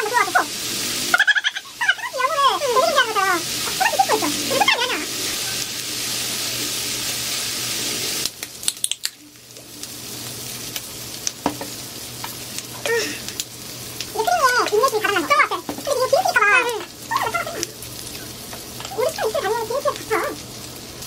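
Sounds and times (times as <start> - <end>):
pork sizzling on a grill pan: 0.0 - 21.0.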